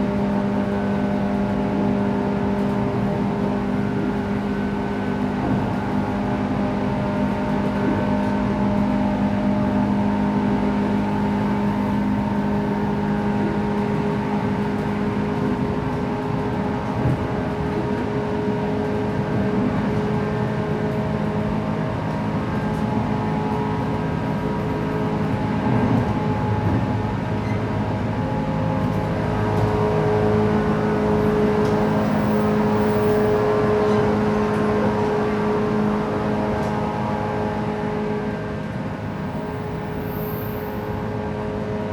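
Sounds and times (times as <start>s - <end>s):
wheels rumbling on rails: 0.0s - 41.9s.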